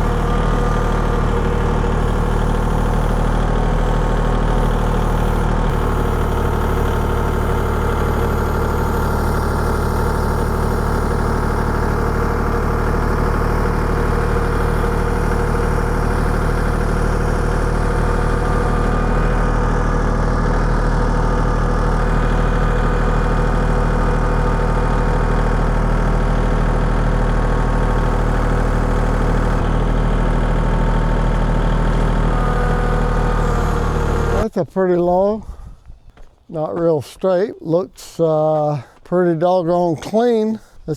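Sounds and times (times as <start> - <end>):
engine idling: 0.0 - 34.5.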